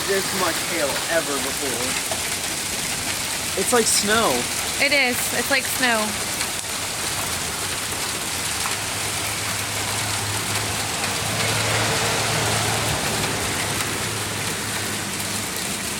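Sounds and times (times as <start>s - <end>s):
heavy hail falling: 0.0s - 15.9s.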